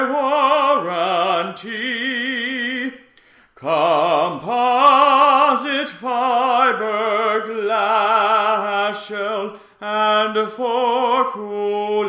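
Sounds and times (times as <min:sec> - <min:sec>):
man singing opera: 0:00.0 - 0:03.0, 0:03.6 - 0:12.0.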